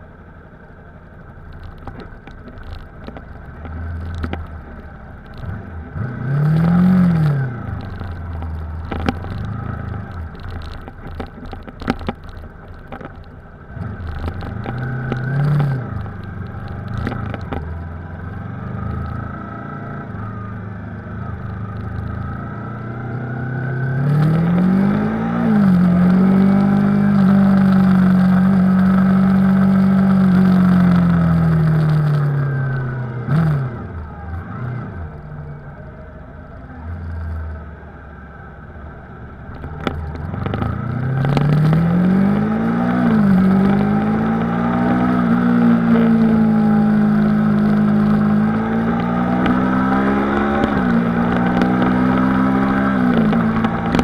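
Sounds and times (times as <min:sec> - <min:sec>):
motorcycle engine shifting gears: 0:01.0 - 0:54.0.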